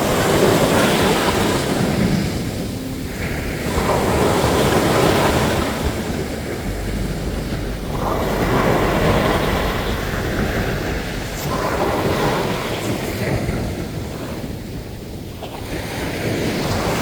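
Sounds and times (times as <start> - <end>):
waves breaking on a beach: 0.0 - 17.0.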